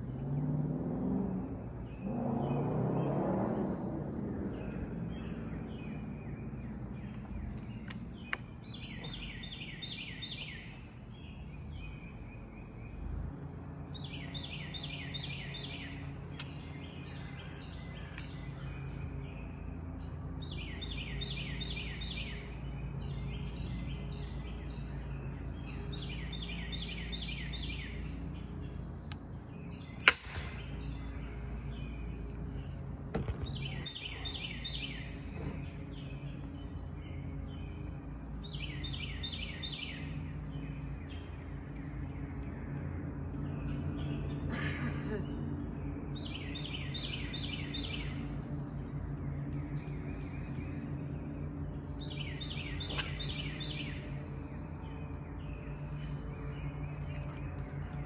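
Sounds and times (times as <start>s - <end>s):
bird singing rapid phrase: 0.0s - 58.0s
low steady hum: 0.0s - 58.0s.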